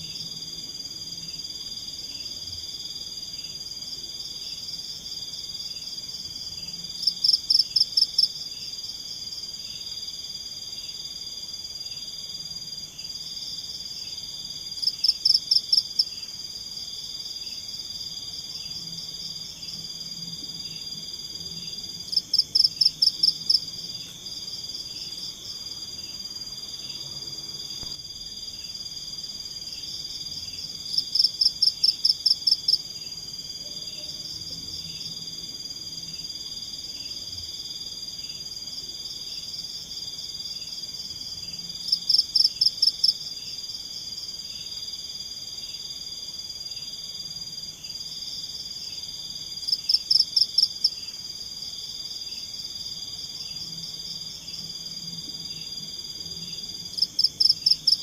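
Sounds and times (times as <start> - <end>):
high insect buzz: 0.0 - 58.0.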